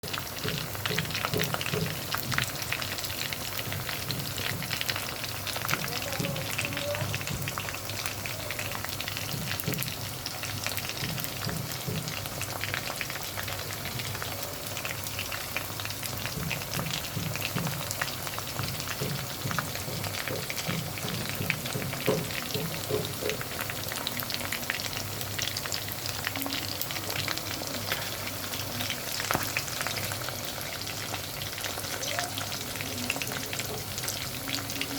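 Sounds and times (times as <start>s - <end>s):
chicken sizzling in hot oil: 0.0s - 34.9s.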